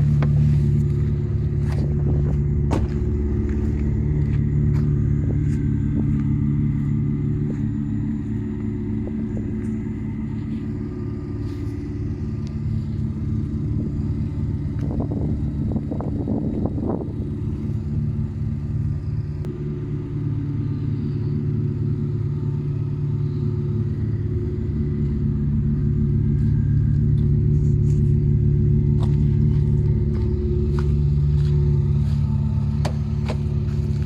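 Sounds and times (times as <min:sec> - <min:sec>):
car engine drone: 0:00.0 - 0:34.0.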